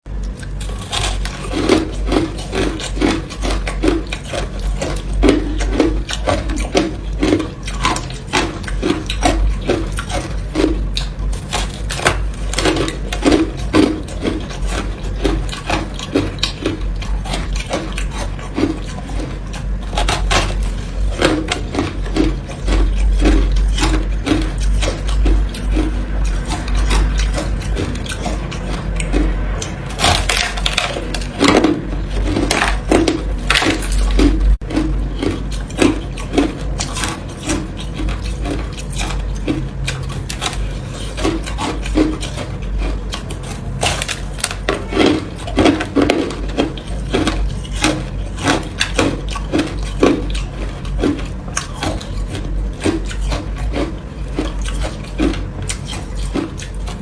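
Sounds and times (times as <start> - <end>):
teeth crunching ice: 0.1 - 57.0.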